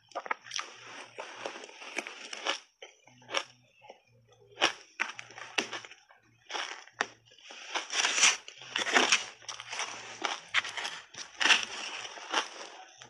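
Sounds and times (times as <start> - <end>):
ice being chewed crunchily: 0.0 - 13.0.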